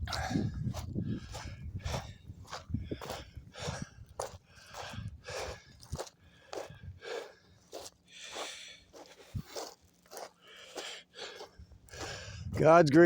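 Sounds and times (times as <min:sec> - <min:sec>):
footsteps on sandy ground: 0:00.0 - 0:13.0.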